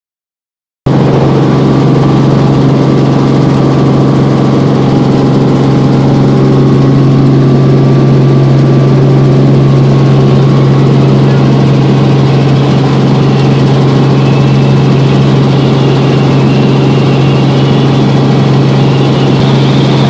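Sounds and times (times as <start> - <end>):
helicopter engine and rotor drone: 0.9 - 20.0.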